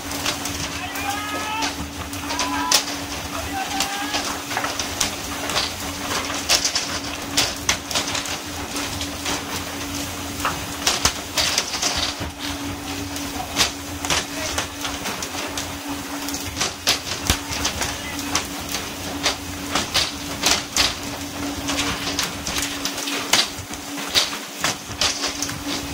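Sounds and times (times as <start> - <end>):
boat engine hum: 0.0 - 25.9
water spray hissing along hull: 0.0 - 25.9.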